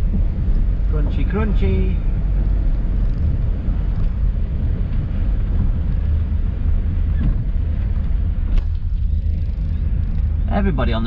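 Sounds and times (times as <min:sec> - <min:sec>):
van rumbling: 0:00.0 - 0:11.0.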